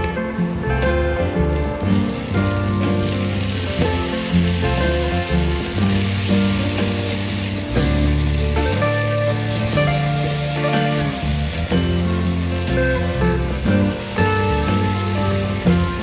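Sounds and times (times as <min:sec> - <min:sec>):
background music with low notes: 0:00.0 - 0:16.0
tomatoes sizzling in hot oil: 0:00.0 - 0:16.0.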